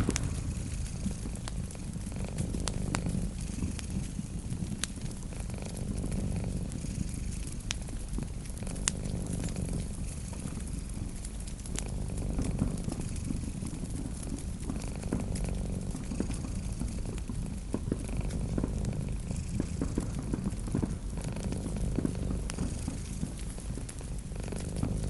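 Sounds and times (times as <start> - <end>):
cat purring: 0.0 - 25.0
wood fire crackling: 0.0 - 25.0.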